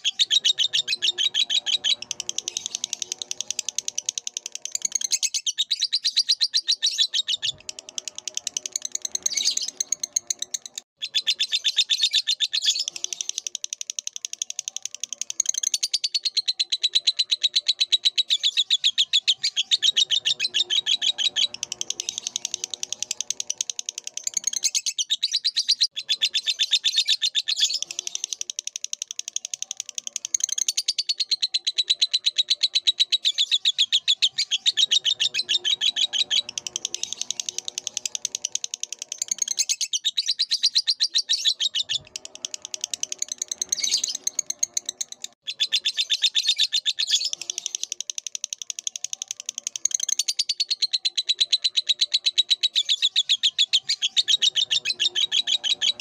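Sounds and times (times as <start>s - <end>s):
lovebird chattering: 0.0s - 56.0s.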